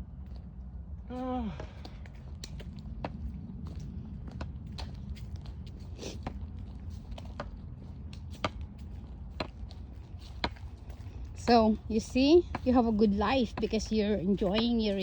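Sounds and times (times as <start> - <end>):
steady low rumble: 0.0 - 15.0
footsteps crunching: 1.8 - 15.0.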